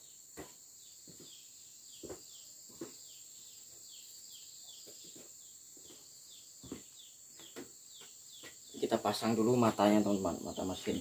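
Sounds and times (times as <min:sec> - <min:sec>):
bird chirping: 0:00.0 - 0:11.0
insects droning: 0:00.0 - 0:11.0.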